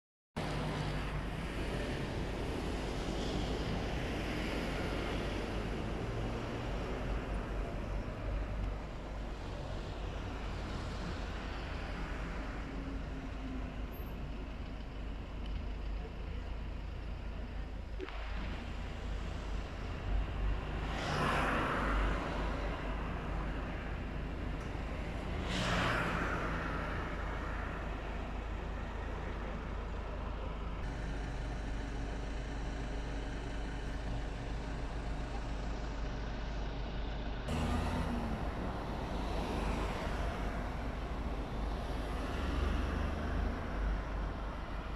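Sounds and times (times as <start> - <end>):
low traffic rumble: 0.4 - 44.9
vehicles passing: 0.4 - 44.9.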